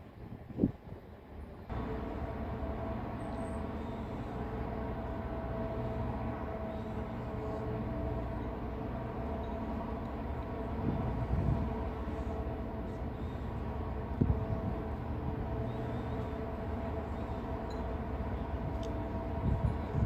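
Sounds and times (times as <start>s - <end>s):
low rumble of ship engines: 0.0s - 20.0s
faint droning tone: 1.7s - 20.0s.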